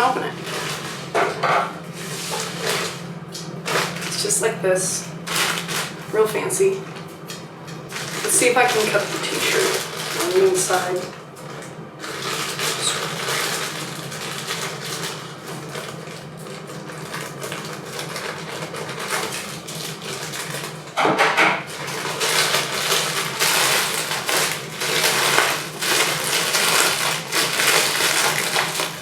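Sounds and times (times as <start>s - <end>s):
plastic mailer crinkling: 0.0s - 1.2s, 2.0s - 4.4s, 5.1s - 6.2s, 7.8s - 20.9s, 21.6s - 29.0s.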